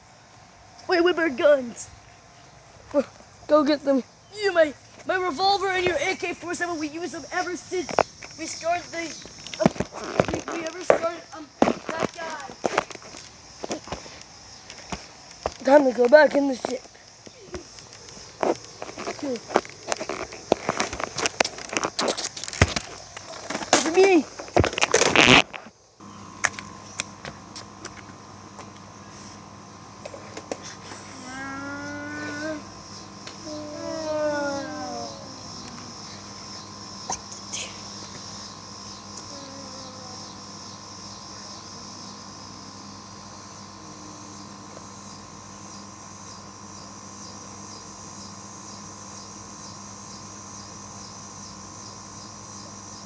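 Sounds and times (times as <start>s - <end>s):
insects trilling: 0.0s - 53.0s
steady background hum: 0.0s - 53.0s.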